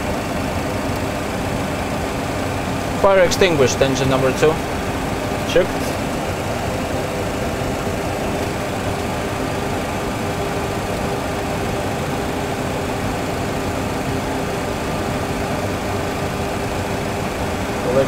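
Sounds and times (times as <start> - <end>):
faint steady hum: 0.0 - 18.0
jet engine and airflow noise: 0.0 - 18.0.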